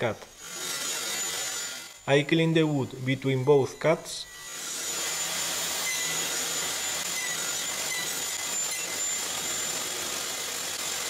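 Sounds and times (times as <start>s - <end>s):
table saw cutting wood: 0.0s - 11.0s.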